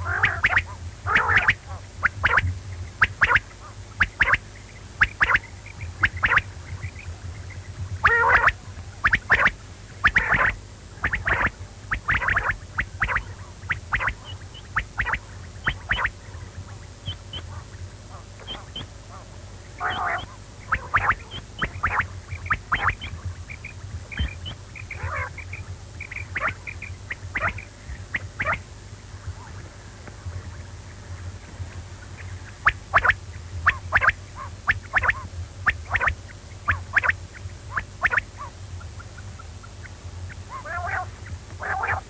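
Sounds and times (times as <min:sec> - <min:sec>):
quail chirping: 0:00.0 - 0:29.7, 0:30.3 - 0:42.0
low hum: 0:00.0 - 0:42.0.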